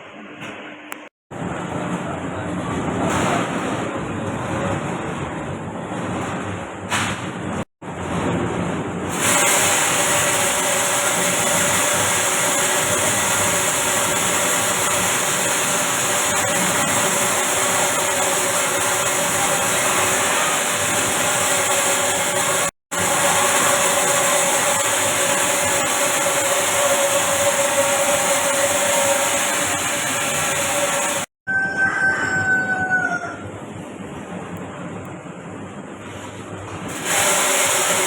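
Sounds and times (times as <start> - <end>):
roasting machine running: 1.3 - 32.9, 34.2 - 38.0.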